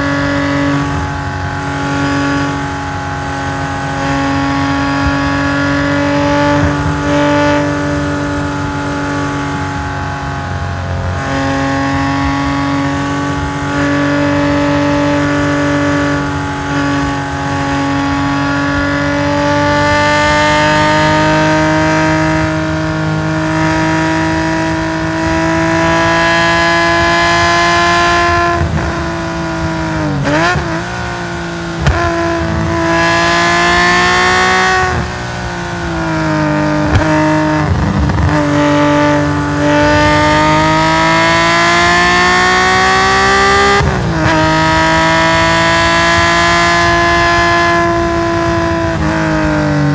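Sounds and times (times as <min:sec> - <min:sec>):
car engine pulling hard: 0:00.0 - 0:49.9
engine revs on downshifts: 0:00.0 - 0:49.9.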